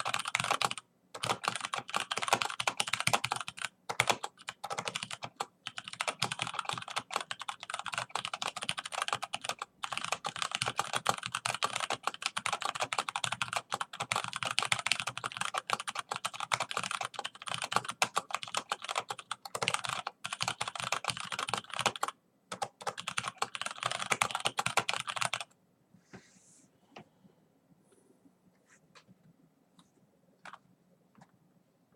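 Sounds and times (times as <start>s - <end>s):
keyboard typing: 0.0s - 25.6s, 29.8s - 31.3s.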